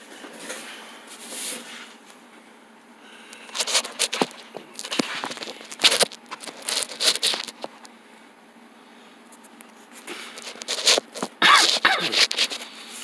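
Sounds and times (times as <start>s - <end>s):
rustling and scraping handling noise: 0.0s - 2.3s, 3.4s - 8.0s, 9.2s - 13.0s.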